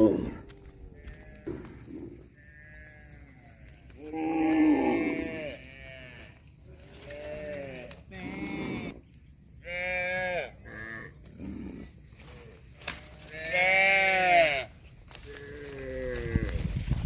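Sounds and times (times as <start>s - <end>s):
farm animal bleating: 0.0s - 9.0s, 9.6s - 16.9s.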